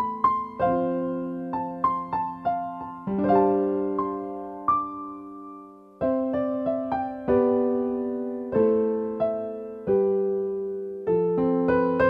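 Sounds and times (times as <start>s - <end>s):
slow piano-like keyboard melody: 0.0s - 12.0s.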